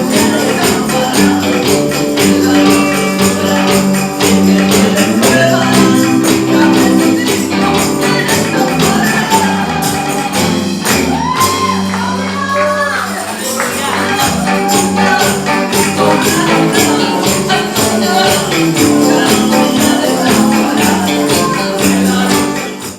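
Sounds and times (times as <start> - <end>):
tambourine beating rhythm: 0.0 - 22.9.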